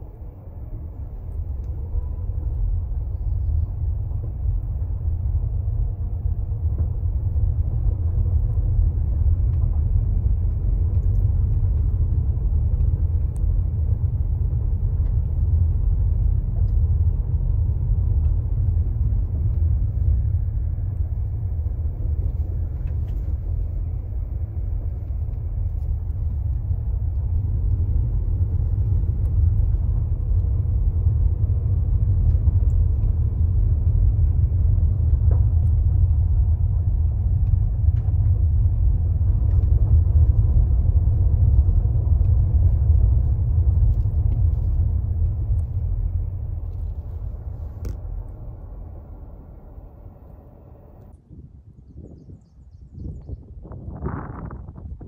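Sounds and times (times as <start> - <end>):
vehicle rumble from inside cab: 0.0 - 51.2.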